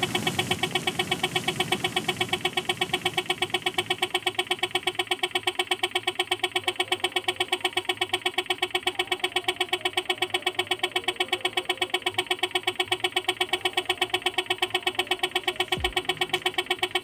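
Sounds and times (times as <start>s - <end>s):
air compressor running: 0.0s - 17.0s.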